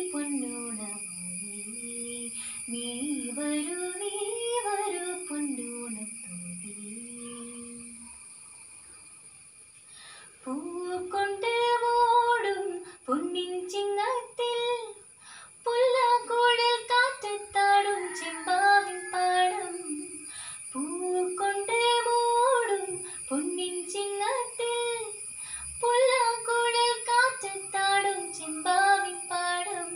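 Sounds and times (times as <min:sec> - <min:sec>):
girl singing unaccompanied: 0:00.0 - 0:08.0, 0:10.4 - 0:15.0, 0:15.6 - 0:25.2, 0:25.8 - 0:29.9.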